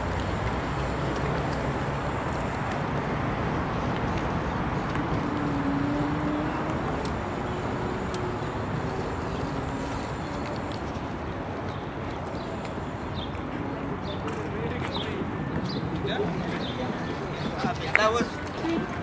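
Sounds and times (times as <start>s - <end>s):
bike tyre noise on pavement: 0.0s - 19.0s.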